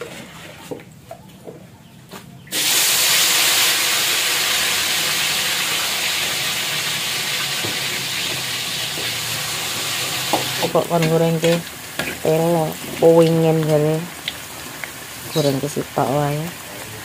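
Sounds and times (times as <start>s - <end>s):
food sizzling in hot oil: 2.5s - 17.0s.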